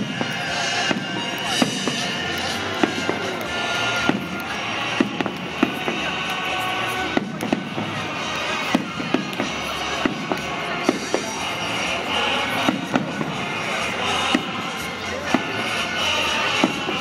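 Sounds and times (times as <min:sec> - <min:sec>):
firework bangs: 0:00.0 - 0:17.0
firework crackle and rumble: 0:00.0 - 0:17.0
music playing: 0:00.0 - 0:17.0.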